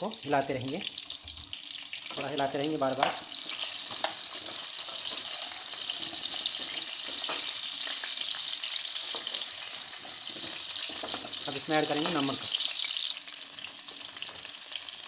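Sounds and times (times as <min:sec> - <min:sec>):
frying in oil sizzling: 0:00.0 - 0:15.0.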